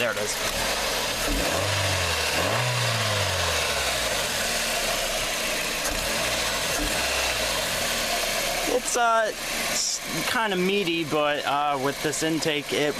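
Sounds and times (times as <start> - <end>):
car engine revving and idling: 0.0 - 12.9.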